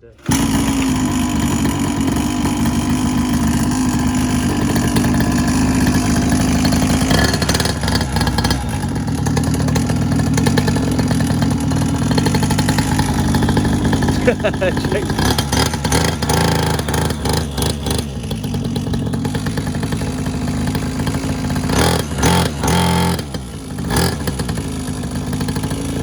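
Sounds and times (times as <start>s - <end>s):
two-stroke quad bike engine: 0.0s - 26.0s.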